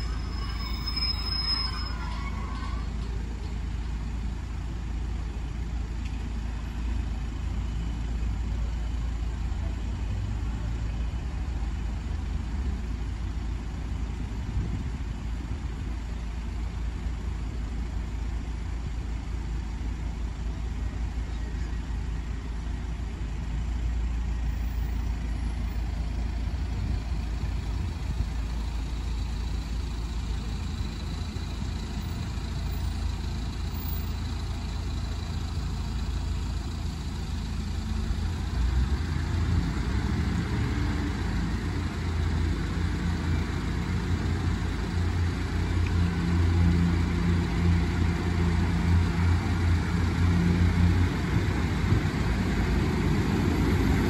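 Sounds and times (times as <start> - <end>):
diesel train engines droning: 0.0 - 54.0
low traffic rumble: 0.0 - 54.0.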